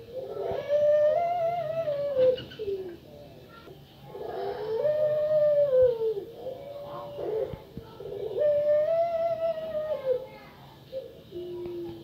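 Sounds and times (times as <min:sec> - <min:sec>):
dove cooing: 0:00.0 - 0:03.2, 0:04.0 - 0:12.0.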